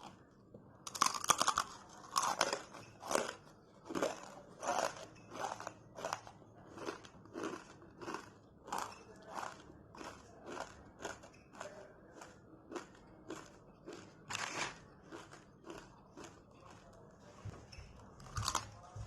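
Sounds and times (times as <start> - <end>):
crunchy snack being chewed: 0.9 - 17.0, 18.2 - 18.8.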